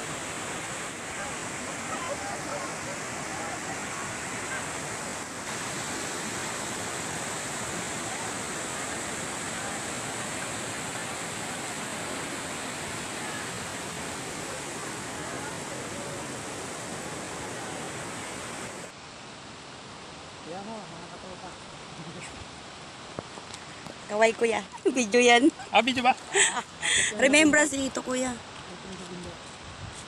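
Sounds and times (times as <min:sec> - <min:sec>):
stream pouring over boulders: 0:00.0 - 0:29.7.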